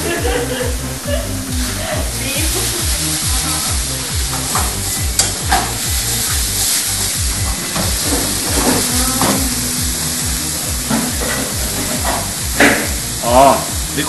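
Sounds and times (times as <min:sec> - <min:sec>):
low thumping beat: 0:00.0 - 0:14.0
meat and onion sizzling: 0:00.0 - 0:14.0.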